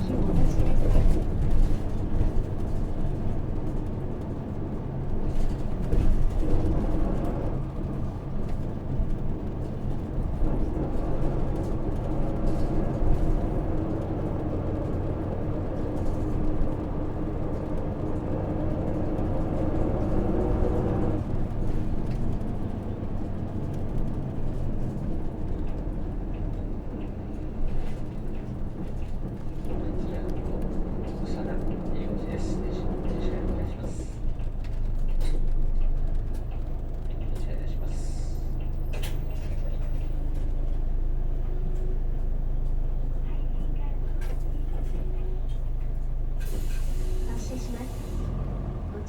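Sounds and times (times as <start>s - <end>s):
bus diesel engine running: 0.0s - 49.0s.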